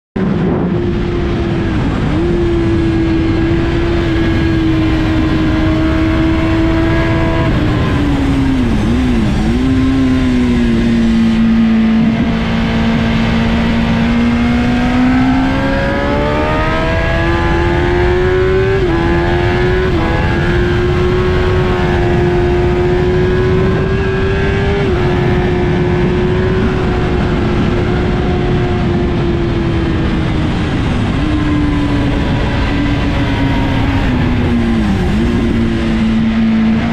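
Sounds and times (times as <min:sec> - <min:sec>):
motorcycle engine at racing speed: 0:00.2 - 0:36.9
rush of wind: 0:00.2 - 0:36.9.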